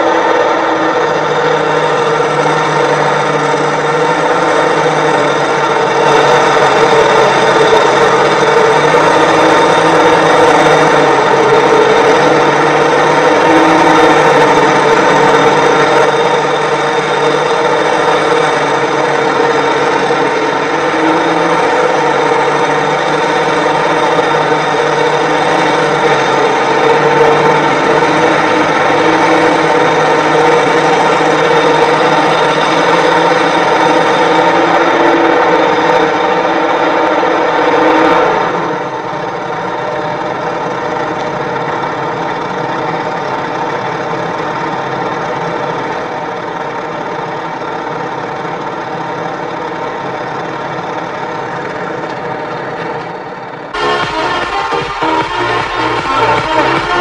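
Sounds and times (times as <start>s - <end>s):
harvester diesel engine running: 0.0s - 57.0s
tractor engine running: 0.0s - 57.0s.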